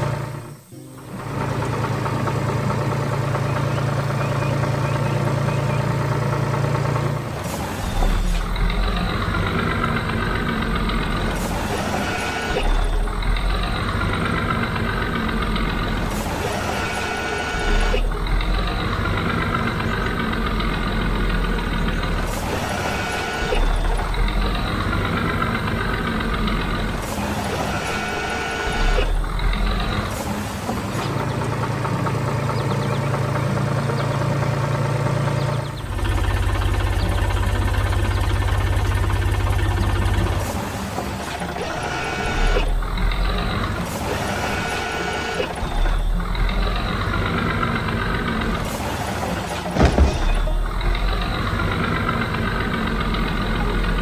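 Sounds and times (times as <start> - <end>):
cartoon truck engine hum: 0.0 - 54.0.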